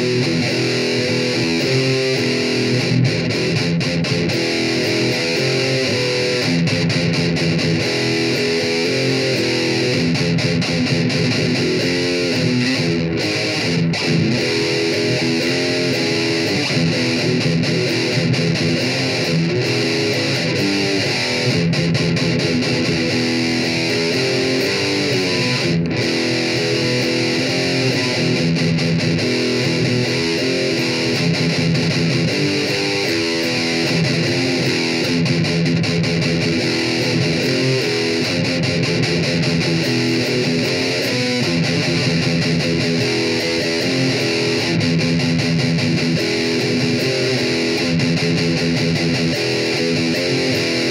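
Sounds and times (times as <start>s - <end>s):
distorted electric guitar riff: 0.0s - 50.9s.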